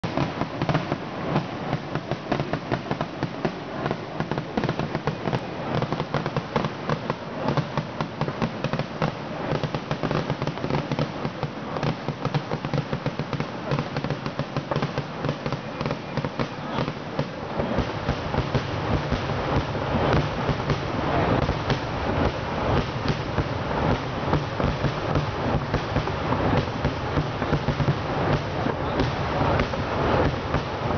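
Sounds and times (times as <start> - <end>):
fireworks bangs and crackles: 0.0 - 30.9.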